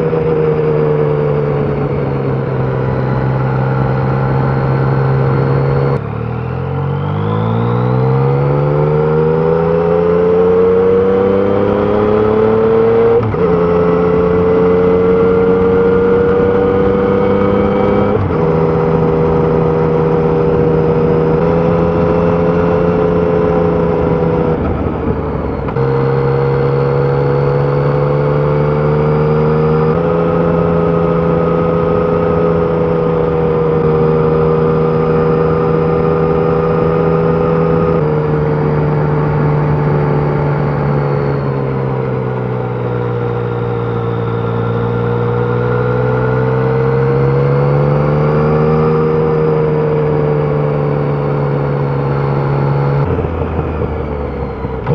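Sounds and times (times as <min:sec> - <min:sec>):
motorcycle engine running hard: 0:00.0 - 0:54.9.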